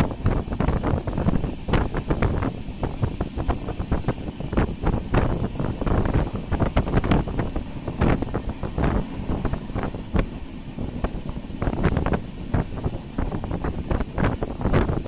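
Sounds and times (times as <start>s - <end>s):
train wheels clattering on track: 0.0s - 15.0s
wind rushing over microphone: 0.0s - 15.0s.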